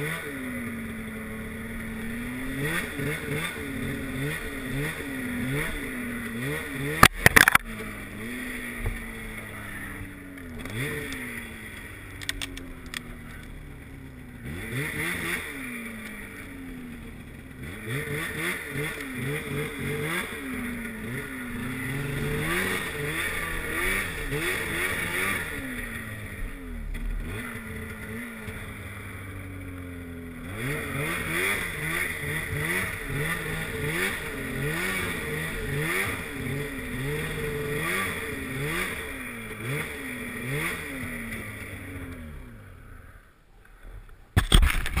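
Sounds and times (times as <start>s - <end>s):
snowmobile engine revving: 0.0s - 44.0s.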